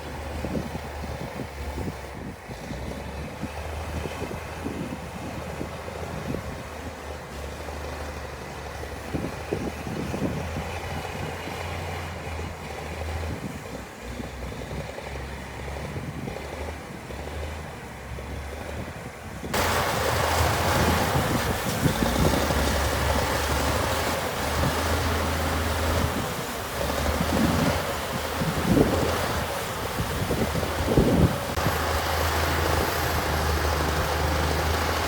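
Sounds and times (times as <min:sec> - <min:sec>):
diesel machinery engine drone: 0:00.0 - 0:35.0.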